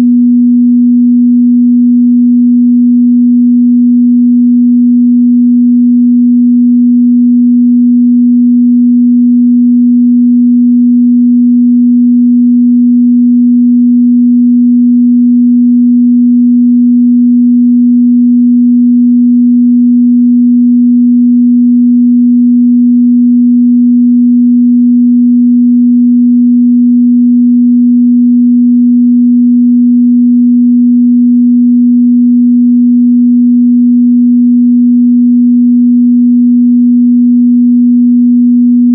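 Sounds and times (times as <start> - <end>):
sine wave test tone: 0.0 - 38.9.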